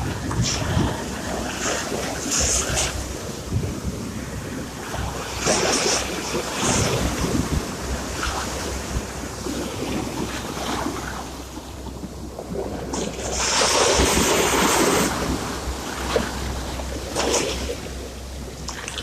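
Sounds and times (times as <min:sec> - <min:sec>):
sea waves washing in: 0:00.0 - 0:19.0.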